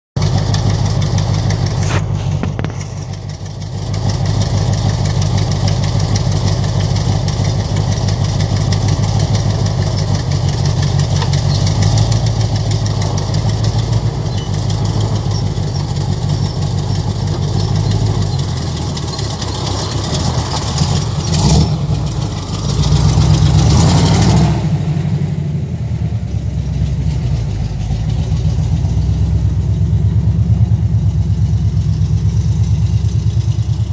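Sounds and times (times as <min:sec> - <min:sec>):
engine running: 0:00.2 - 0:33.9.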